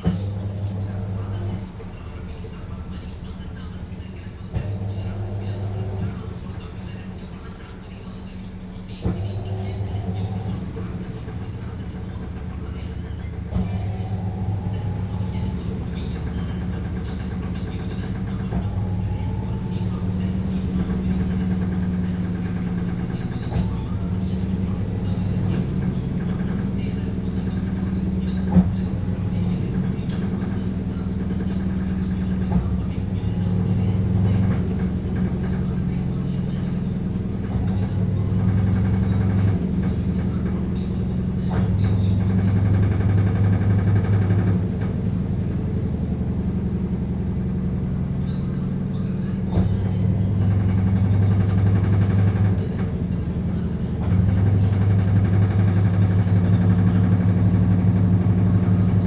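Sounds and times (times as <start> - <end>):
washing machine humming: 0.0 - 59.0.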